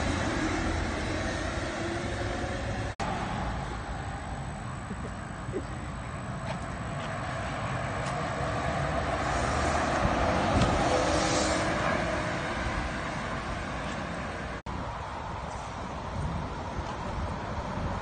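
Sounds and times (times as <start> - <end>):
trolleybus passing by: 0.0 - 18.0.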